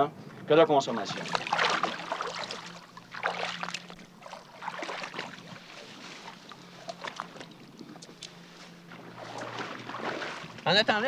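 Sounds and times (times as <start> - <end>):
low steady hum: 0.0 - 11.0
shallow water splashing: 0.9 - 11.0.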